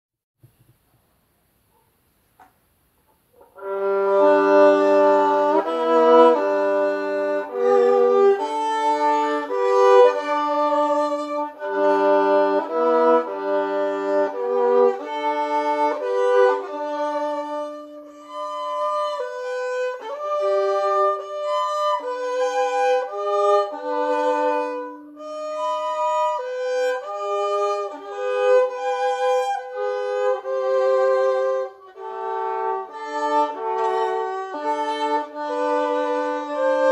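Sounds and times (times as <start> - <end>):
bowed violin melody: 3.4 - 36.9.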